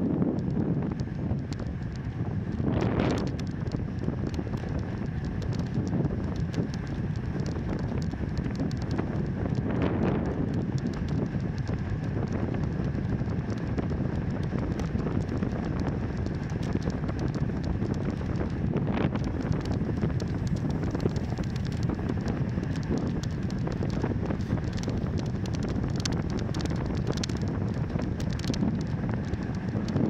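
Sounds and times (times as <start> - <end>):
wind buffeting microphone: 0.0 - 30.0
light ticks: 0.3 - 2.2, 2.8 - 30.0.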